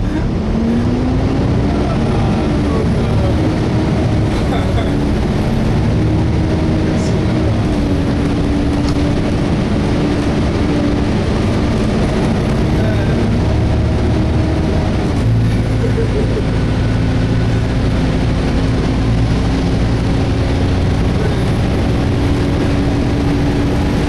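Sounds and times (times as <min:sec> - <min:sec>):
bus cooling fan: 0:00.0 - 0:24.0
bus engine drone: 0:00.0 - 0:24.0.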